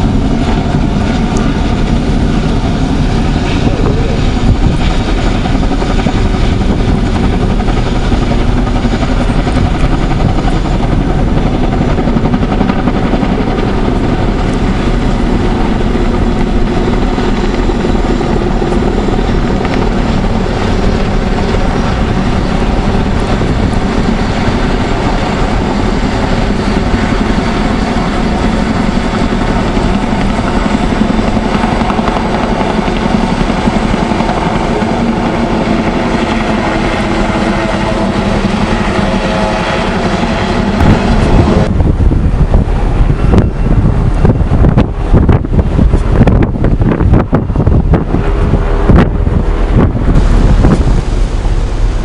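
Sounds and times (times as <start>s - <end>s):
helicopter rotors beating: 0.0s - 52.0s
turbine whine: 0.0s - 52.0s.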